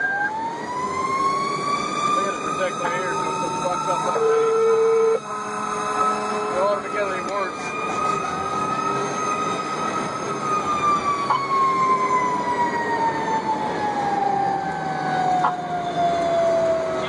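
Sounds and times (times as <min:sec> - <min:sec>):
fire engine siren winding down: 0:00.0 - 0:17.0.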